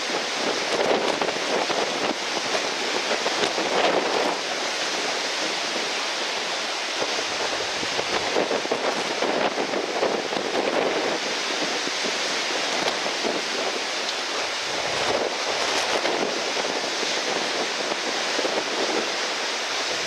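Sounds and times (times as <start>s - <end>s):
breaking surf: 0.0s - 20.0s
strong gale wind: 0.0s - 20.0s.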